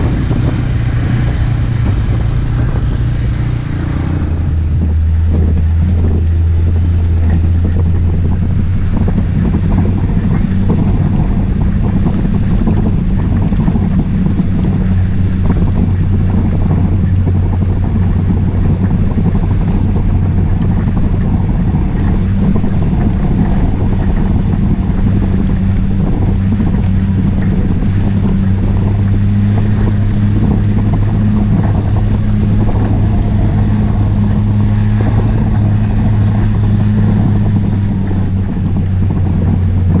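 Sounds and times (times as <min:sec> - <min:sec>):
off-road vehicle engine droning: 0:00.0 - 0:40.0.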